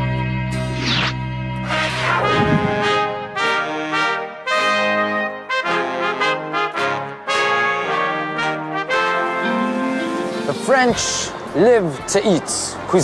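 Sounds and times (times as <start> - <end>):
brass theme music: 0.0 - 12.9.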